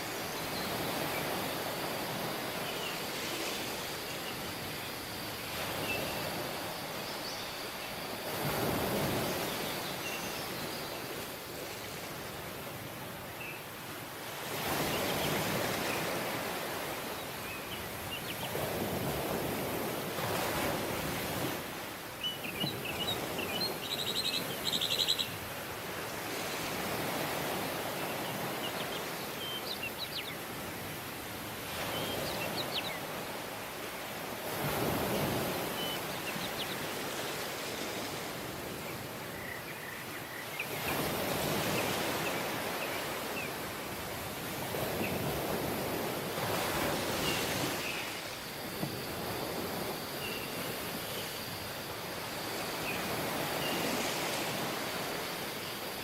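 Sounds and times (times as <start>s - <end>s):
waves washing onto beach: 0.0s - 24.6s, 25.3s - 56.0s.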